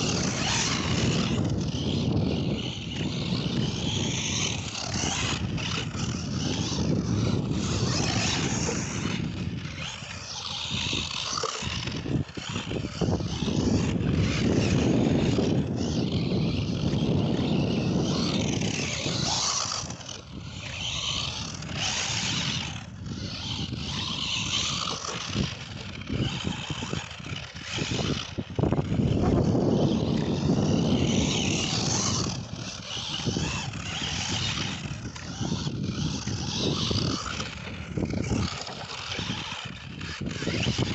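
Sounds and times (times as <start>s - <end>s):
radio-controlled car driving: 0.0s - 40.9s
tyres scraping on dirt: 0.0s - 40.9s.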